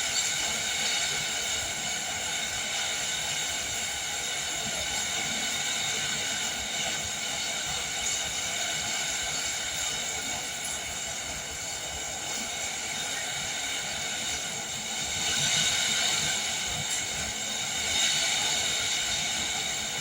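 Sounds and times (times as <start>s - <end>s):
wind-driven rain falling: 0.0s - 20.0s.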